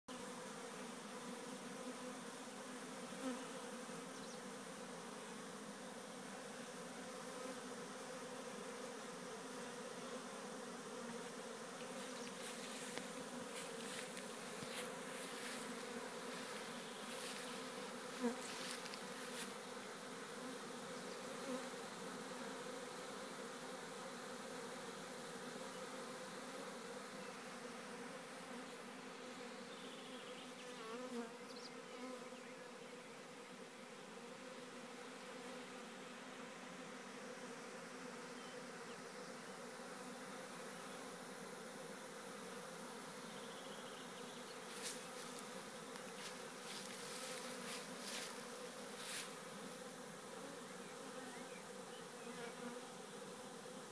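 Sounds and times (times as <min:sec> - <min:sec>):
bees buzzing: 0:00.1 - 0:53.9.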